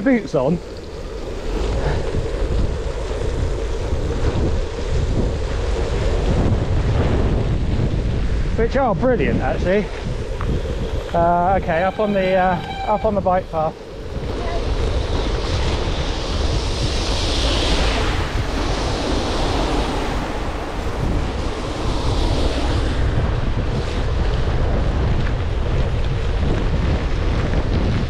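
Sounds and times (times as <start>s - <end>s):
wet tyres hissing: 0.0s - 25.0s
wind buffeting microphone: 0.0s - 28.0s.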